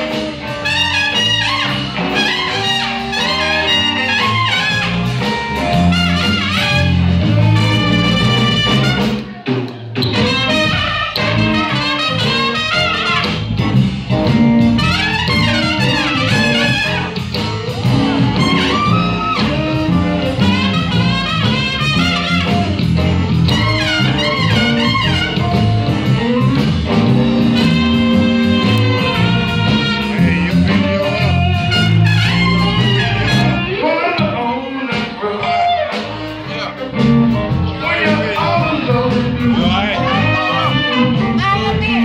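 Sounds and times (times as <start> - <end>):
trumpet lead line: 0.0 - 9.4, 10.0 - 42.0
live band playing blues: 0.0 - 42.0.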